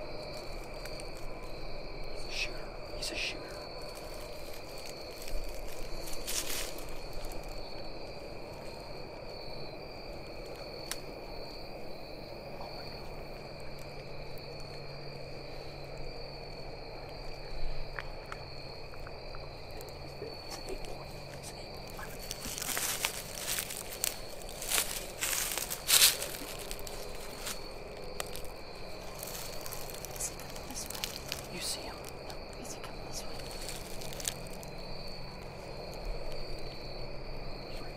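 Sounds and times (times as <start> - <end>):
insect chorus trilling: 0.0 - 37.9
rustling of dry leaves and clothing: 0.0 - 37.9.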